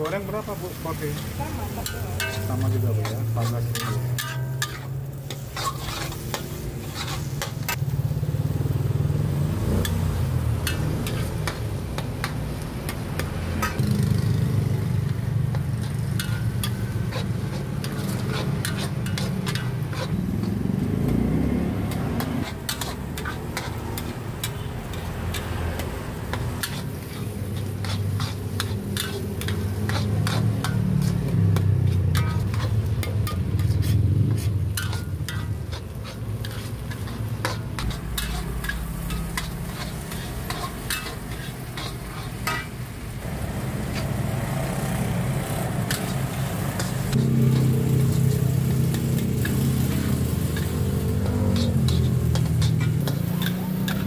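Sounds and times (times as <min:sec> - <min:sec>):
food sizzling: 0:00.0 - 0:54.0
metal spatula clanging on a wok: 0:01.0 - 0:07.9, 0:09.8 - 0:13.9, 0:15.5 - 0:20.6, 0:21.8 - 0:42.9, 0:45.9 - 0:54.0.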